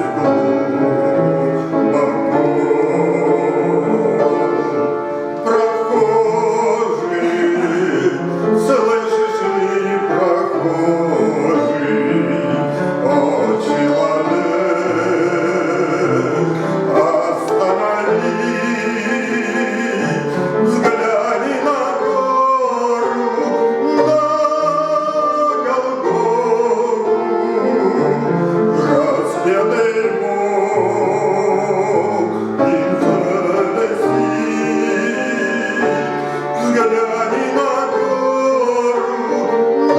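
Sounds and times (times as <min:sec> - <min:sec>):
instrumental accompaniment: 0:00.0 - 0:39.9
man singing a hymn: 0:00.0 - 0:39.9.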